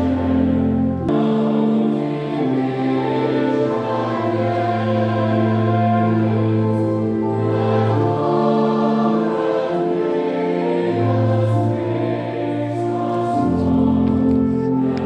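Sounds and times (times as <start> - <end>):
choir singing a hymn: 0.0 - 15.0.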